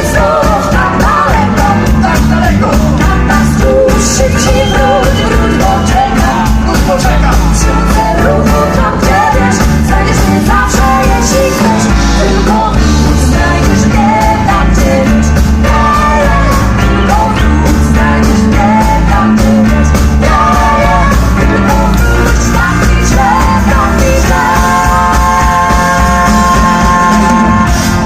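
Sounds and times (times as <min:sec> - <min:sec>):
person singing: 0:00.0 - 0:28.0
rock band playing: 0:00.0 - 0:28.0.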